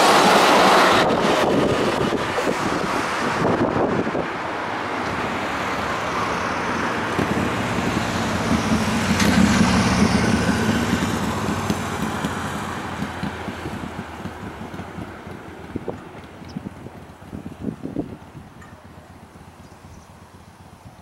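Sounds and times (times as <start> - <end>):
vehicle passing by: 0.0 - 17.6.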